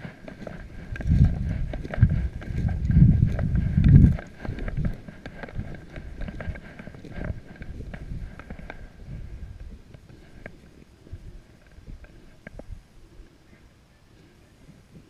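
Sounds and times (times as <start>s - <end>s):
footsteps in dry grass: 0.0s - 12.8s
microphone rustling: 0.0s - 12.8s.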